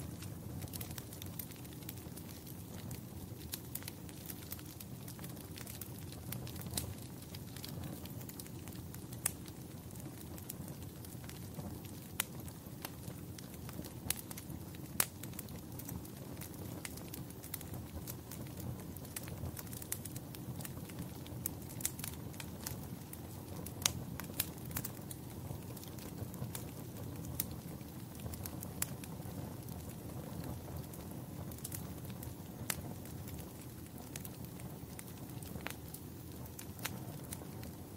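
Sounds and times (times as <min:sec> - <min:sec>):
fire crackling and popping: 0:00.0 - 0:37.9
fire hissing: 0:00.0 - 0:37.9.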